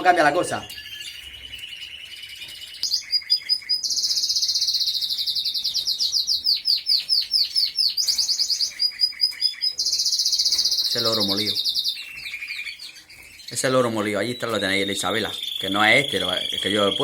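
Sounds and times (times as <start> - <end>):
canary singing fast trills: 0.0 - 17.0.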